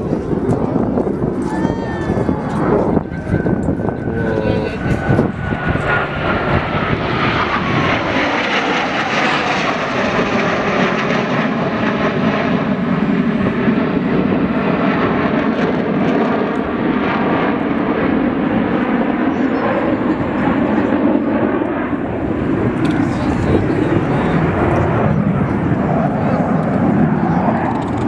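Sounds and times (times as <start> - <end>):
jet aircraft flying overhead: 0.0 - 28.0.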